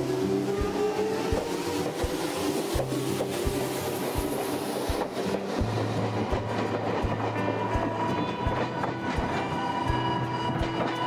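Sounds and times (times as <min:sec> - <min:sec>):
train hum: 0:00.0 - 0:11.0
train wheels clacking over rail joints: 0:00.0 - 0:11.0.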